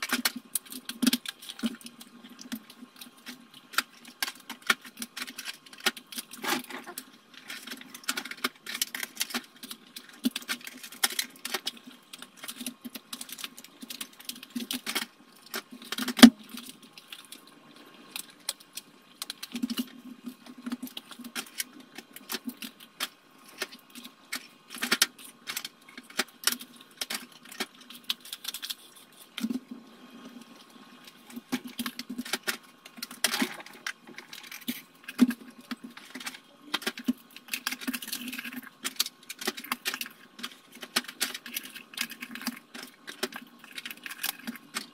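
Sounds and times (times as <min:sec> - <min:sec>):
clicking and rattling of plastic: 0:00.0 - 0:17.5, 0:18.1 - 0:29.7, 0:30.7 - 0:44.9.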